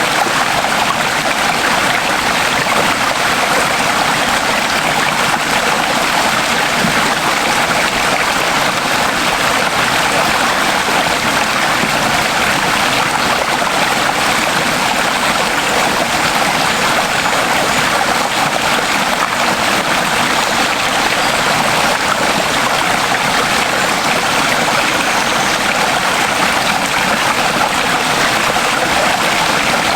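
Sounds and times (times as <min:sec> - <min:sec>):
stream water rushing: 0:00.0 - 0:29.9.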